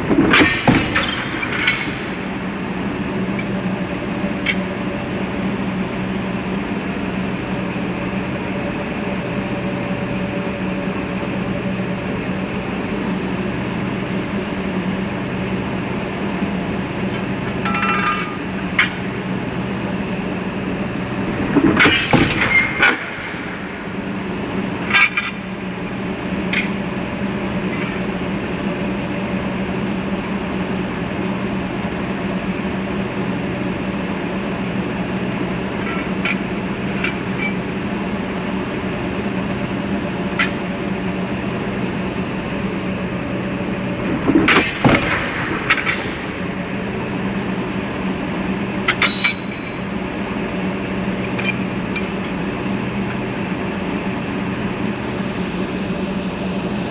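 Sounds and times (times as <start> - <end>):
low mechanical hum: 0.0 - 56.9.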